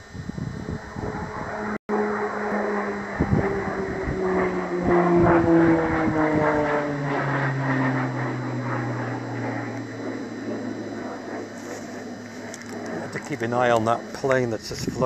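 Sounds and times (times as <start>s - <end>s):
plane flying overhead: 0.0s - 15.0s.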